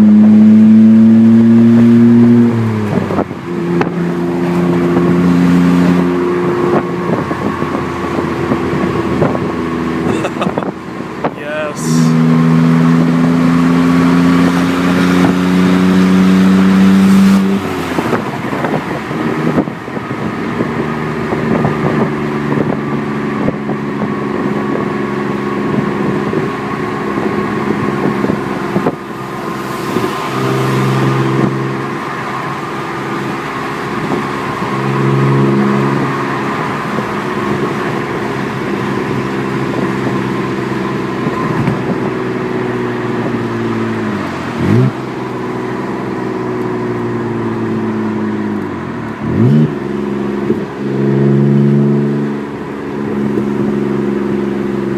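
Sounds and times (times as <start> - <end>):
car engine running without exhaust: 0.0 - 54.9.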